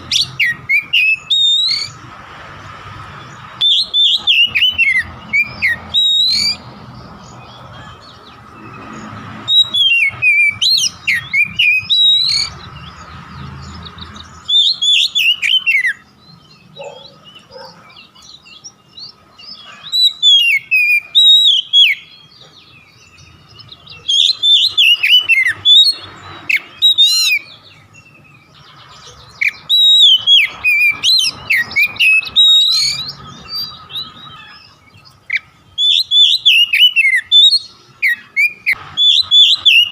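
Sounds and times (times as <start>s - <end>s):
bird whistling song: 0.0s - 2.1s, 3.2s - 39.9s.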